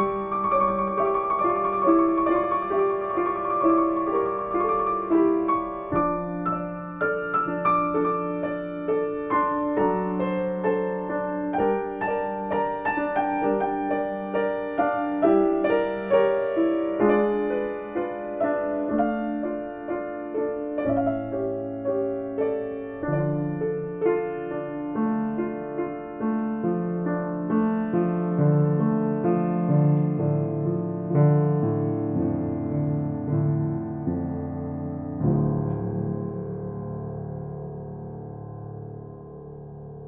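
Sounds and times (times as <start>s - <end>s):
slow gentle piano piece: 0.0s - 40.0s.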